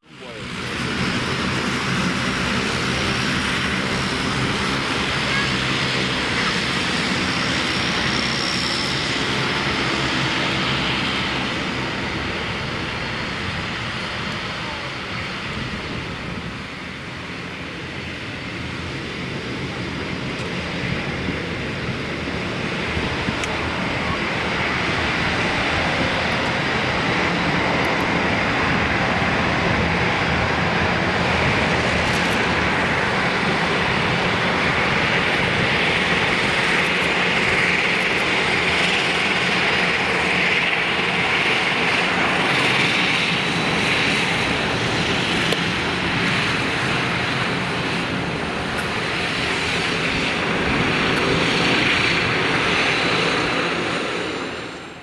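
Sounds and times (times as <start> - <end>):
turboprop propeller drone: 0.0 - 55.0.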